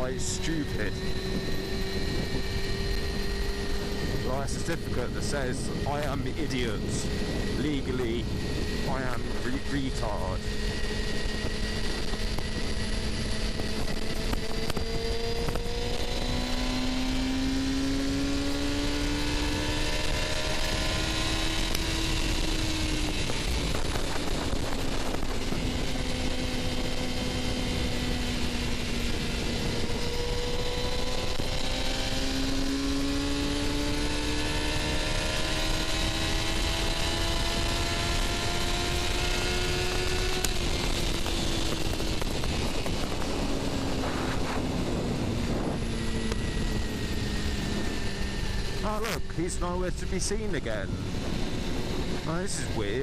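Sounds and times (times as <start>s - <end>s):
motorcycle engine running: 0.0s - 53.0s
wind noise: 0.0s - 53.0s.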